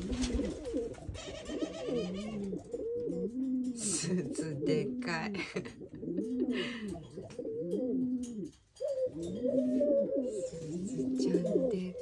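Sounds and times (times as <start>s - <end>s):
pigeon cooing: 0.0s - 12.0s.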